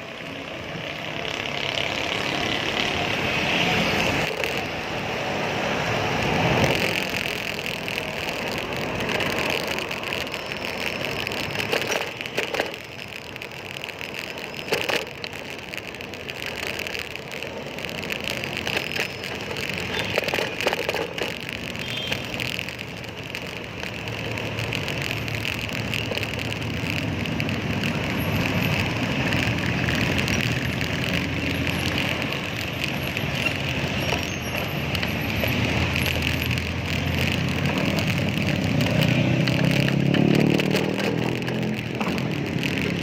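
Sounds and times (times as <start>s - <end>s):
road traffic noise: 0.0s - 43.0s
vehicle engine: 0.0s - 43.0s.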